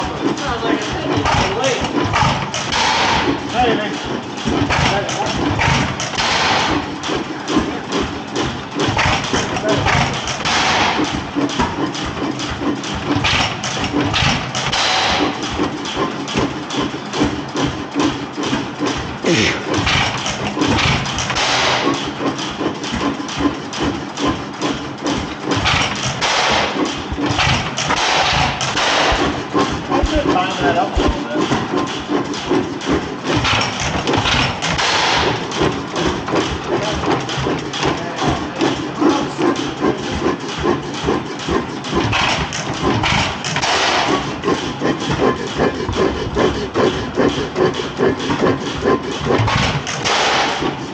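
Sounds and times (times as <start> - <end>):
engine clattering rhythmically: 0.0 - 50.9.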